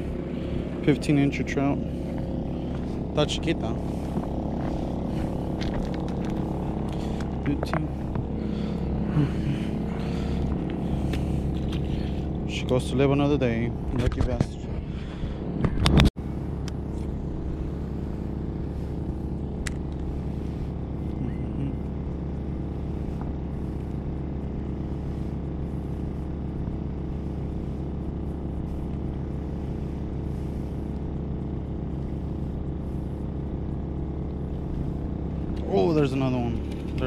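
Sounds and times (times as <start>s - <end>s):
generator engine hum: 0.0s - 37.0s.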